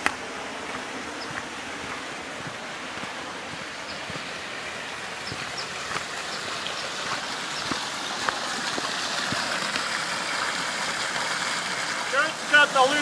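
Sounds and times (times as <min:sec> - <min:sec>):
stream running over rocks: 0:00.0 - 0:13.0
water clicks and splashes: 0:00.0 - 0:13.0.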